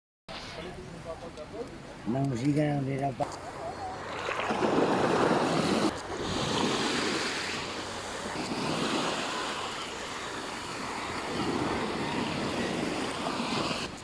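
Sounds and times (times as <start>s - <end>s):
sea waves washing onto beach: 0.3s - 14.0s.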